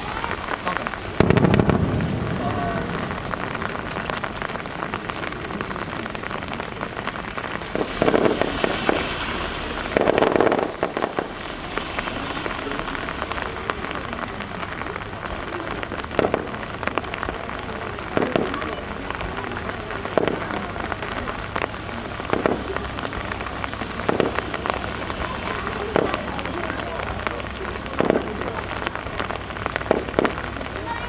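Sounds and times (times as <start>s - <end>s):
firework bursts: 0.0s - 31.0s
steady rain: 0.0s - 31.0s.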